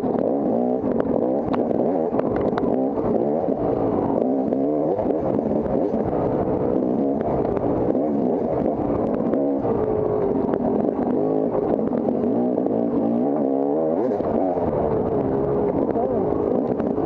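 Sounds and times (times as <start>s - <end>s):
dirt bike engine racing: 0.0s - 17.0s.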